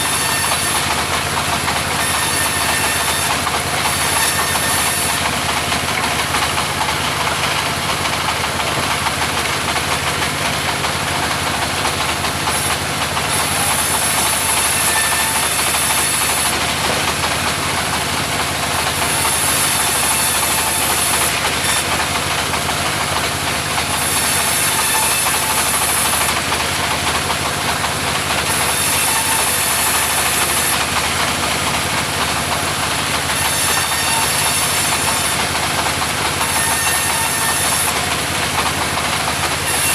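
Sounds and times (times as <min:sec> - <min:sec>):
sawmill engine and saw blade: 0:00.0 - 0:39.9.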